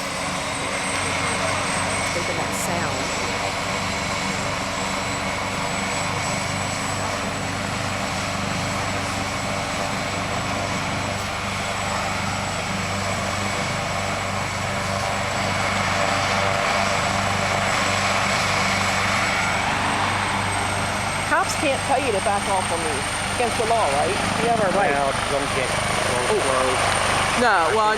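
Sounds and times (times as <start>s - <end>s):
helicopter rotor and turbine hum: 0.0s - 27.9s.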